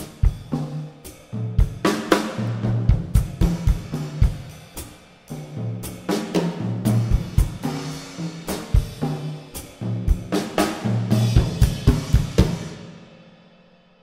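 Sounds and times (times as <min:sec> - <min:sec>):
drum kit played with sticks: 0:00.0 - 0:14.0.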